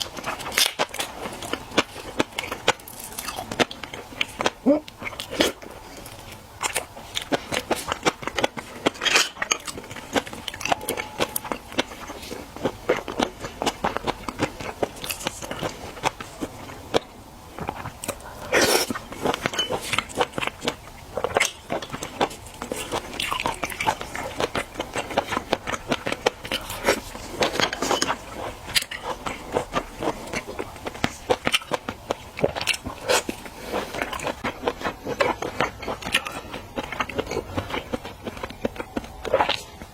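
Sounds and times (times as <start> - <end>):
person chewing with crunches: 0.0 - 39.9.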